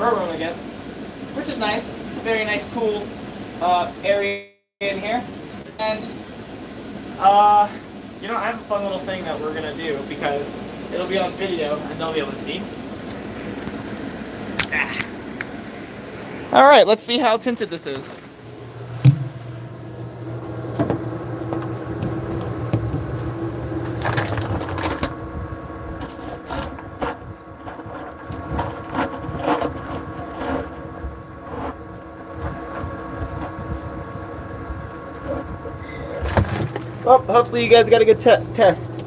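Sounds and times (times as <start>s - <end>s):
muffled electrical hum: 0.0s - 39.0s.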